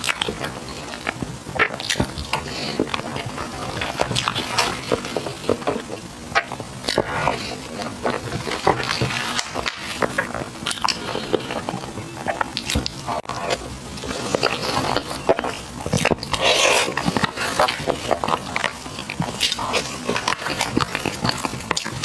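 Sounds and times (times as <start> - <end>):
wet chewing of sticky rice: 0.0 - 22.0.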